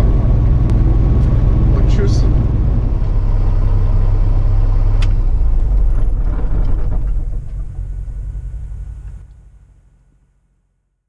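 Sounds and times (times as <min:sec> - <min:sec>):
diesel engine rumble: 0:00.0 - 0:10.7.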